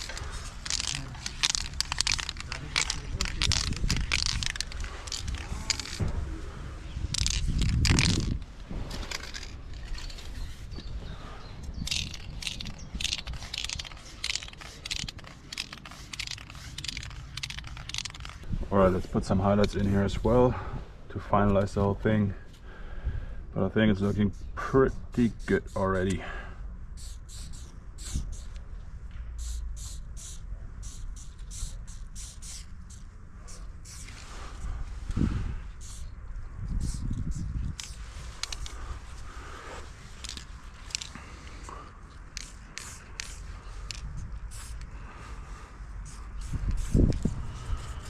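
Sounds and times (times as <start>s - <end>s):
spray paint can hissing: 0.0s - 6.0s, 7.1s - 10.7s, 11.7s - 18.5s, 23.9s - 26.1s, 26.9s - 28.6s, 29.4s - 48.0s.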